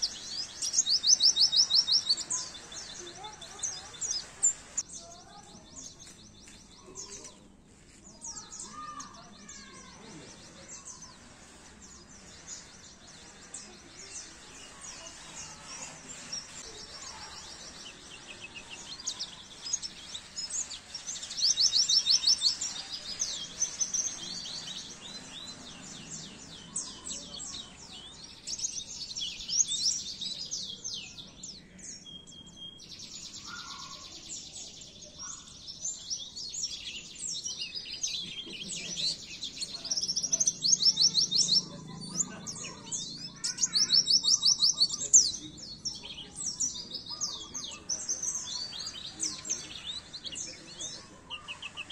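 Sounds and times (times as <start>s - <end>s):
bird twittering and trilling: 0.0s - 51.9s.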